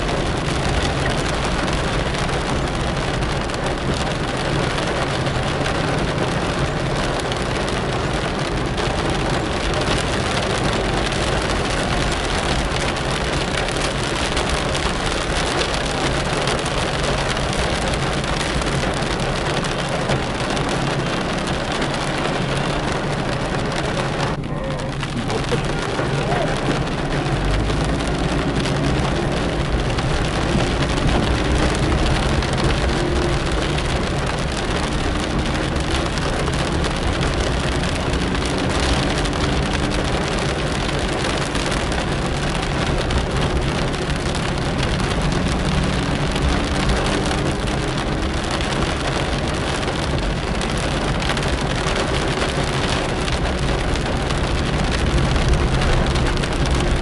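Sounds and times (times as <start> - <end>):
car engine: 0.0 - 57.0
rain on car windscreen and roof: 0.0 - 57.0
tyre noise on wet road: 0.0 - 57.0.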